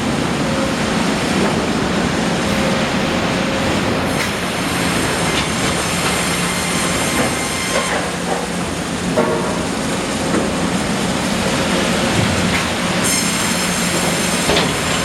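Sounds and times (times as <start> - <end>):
sawmill machinery clatter: 0.0 - 15.0.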